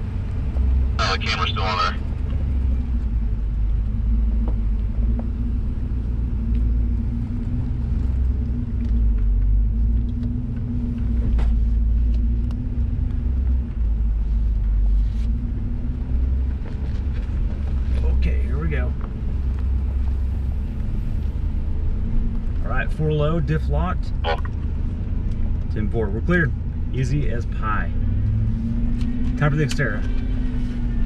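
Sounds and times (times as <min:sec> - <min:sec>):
deep exhaust rumble: 0:00.0 - 0:31.0
truck engine running low: 0:00.0 - 0:31.0.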